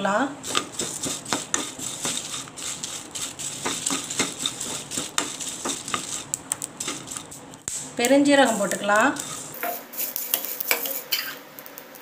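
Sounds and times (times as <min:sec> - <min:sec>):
spices scraping and rattling in pan: 0:00.4 - 0:12.0.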